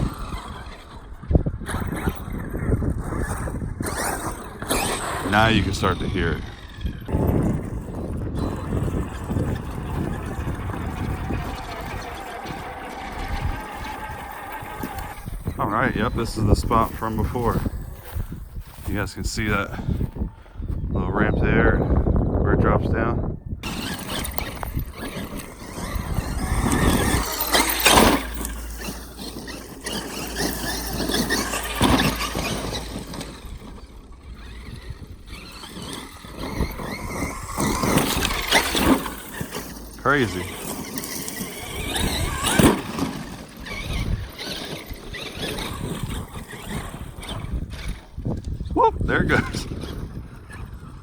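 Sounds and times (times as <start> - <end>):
toy truck electric motor running: 0.0 - 20.2, 23.6 - 51.0
wind rumble on microphone: 0.0 - 51.0.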